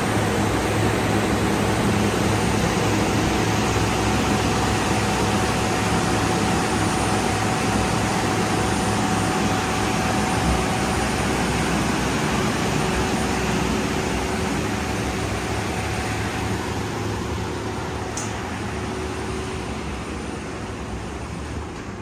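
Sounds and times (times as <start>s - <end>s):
industrial machinery hiss and rumble: 0.0s - 22.0s.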